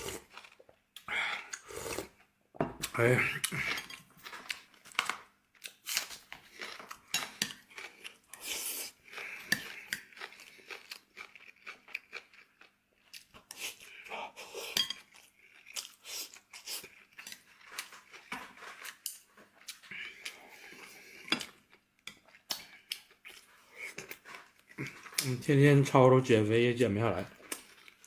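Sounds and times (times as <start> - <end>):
chewing and crunching food: 0.0 - 26.0, 27.2 - 28.0.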